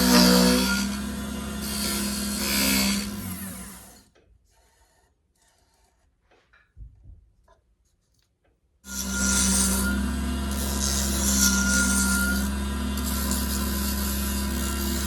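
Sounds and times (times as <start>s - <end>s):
power tool on wood: 0.0s - 6.0s, 8.9s - 15.0s.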